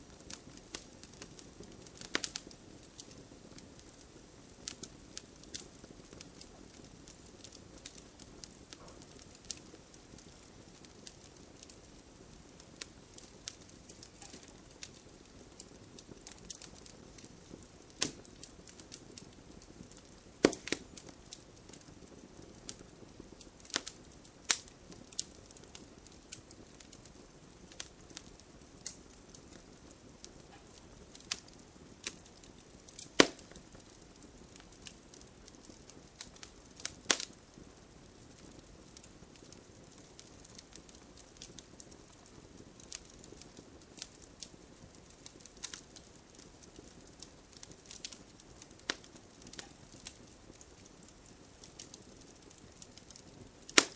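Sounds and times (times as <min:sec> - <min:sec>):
faint steady hiss: 0:00.0 - 0:53.9
wood fire crackling and popping: 0:00.0 - 0:53.9.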